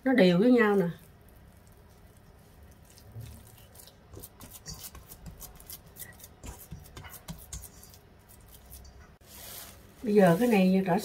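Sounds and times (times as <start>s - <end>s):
hand squeezing wet dough: 0.4s - 10.7s.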